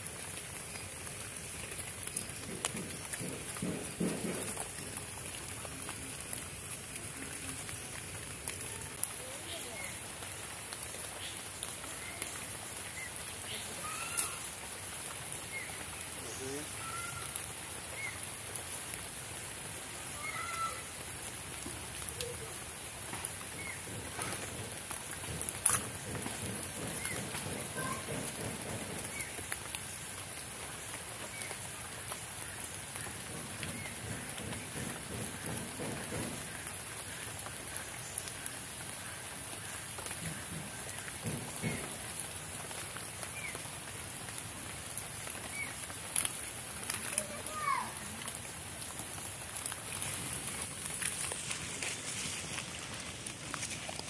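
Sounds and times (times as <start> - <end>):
leaves rustling: 0.0 - 54.0
rain falling on leaves: 0.0 - 54.0.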